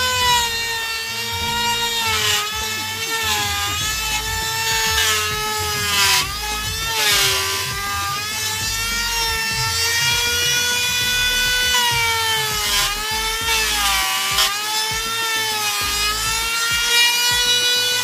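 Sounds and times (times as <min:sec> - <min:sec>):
trimmer router cutting wood: 0:00.0 - 0:18.0.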